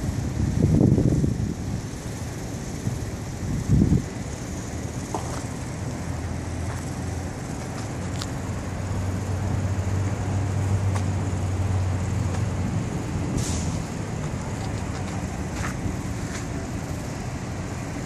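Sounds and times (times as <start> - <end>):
street traffic: 0.0 - 18.0
vehicle engine running: 0.0 - 18.0.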